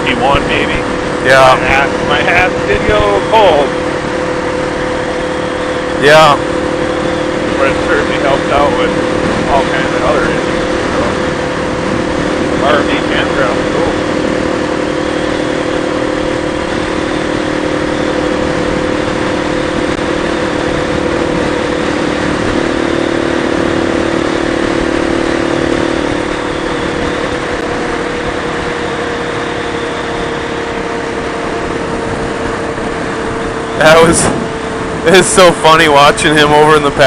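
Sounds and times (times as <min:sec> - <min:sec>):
motorcycle engine cruising: 0:00.0 - 0:37.0
road noise: 0:00.0 - 0:37.0
wind noise: 0:00.0 - 0:37.0.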